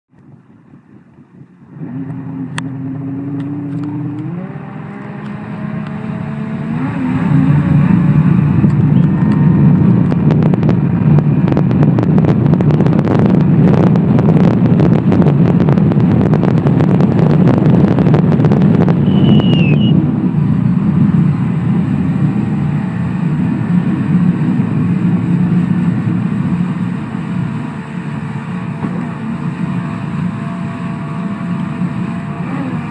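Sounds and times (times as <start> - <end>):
jet ski engine accelerating: 1.6 - 32.9.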